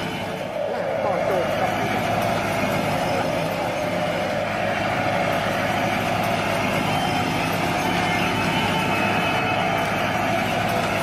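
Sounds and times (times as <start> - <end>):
toy excavator mechanical hum: 0.0 - 11.0.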